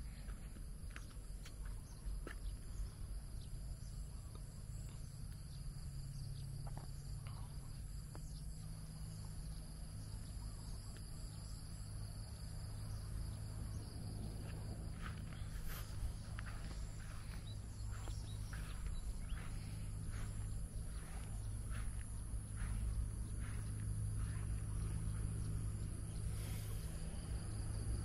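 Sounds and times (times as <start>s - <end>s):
crickets and insects calling: 0.0s - 28.0s
low steady rumble: 0.0s - 28.0s.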